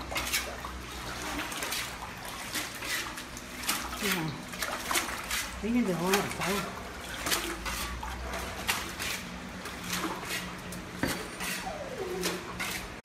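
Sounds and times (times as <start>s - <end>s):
water dripping into buckets: 0.0s - 13.0s.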